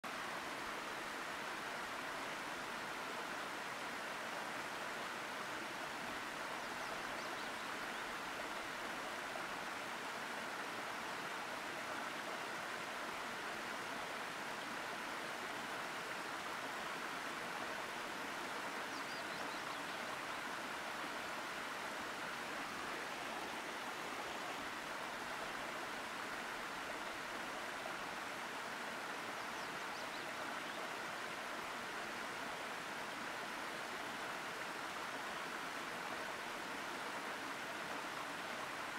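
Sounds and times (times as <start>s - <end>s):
waterfall rushing and splashing: 0.1s - 38.9s.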